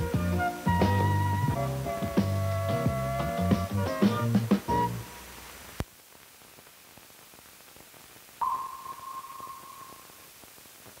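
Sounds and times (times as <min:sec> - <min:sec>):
film soundtrack hiss and crackle: 0:00.0 - 0:11.0.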